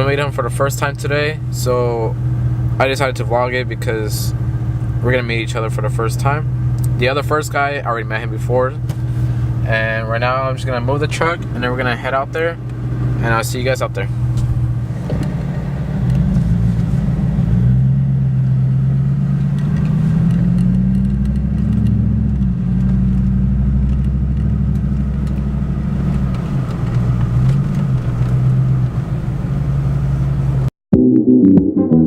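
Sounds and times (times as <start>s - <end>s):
pickup truck engine accelerating: 0.0s - 30.7s.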